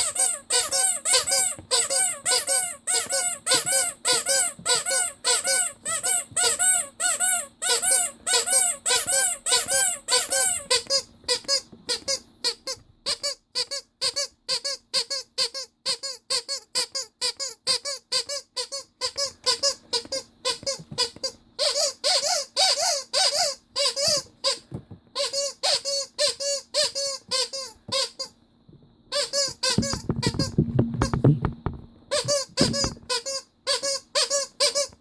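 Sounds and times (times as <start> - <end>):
rubber squeaky toy squeaking: 0.0 - 28.4, 29.1 - 31.3, 32.1 - 35.0.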